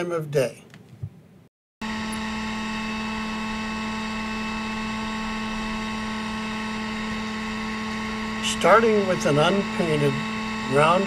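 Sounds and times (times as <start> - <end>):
heat gun fan humming: 1.8 - 11.0.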